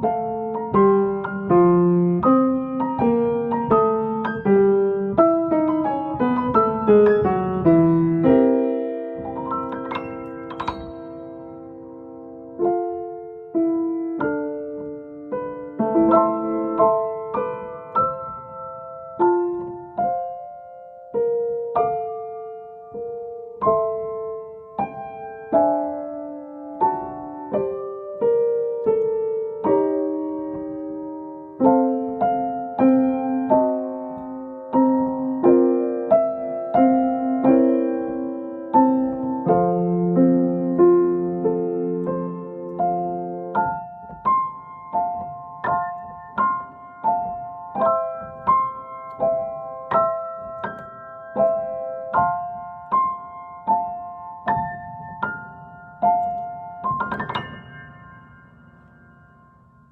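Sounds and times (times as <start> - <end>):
piano chime melody over chords: 8.1 - 29.6, 30.4 - 59.9.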